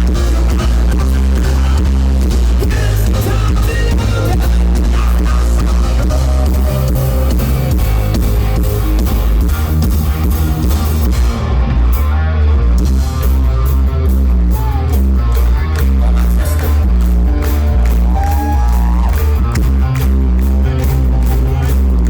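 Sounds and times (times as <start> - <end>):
hard rock band playing: 0.0 - 22.0.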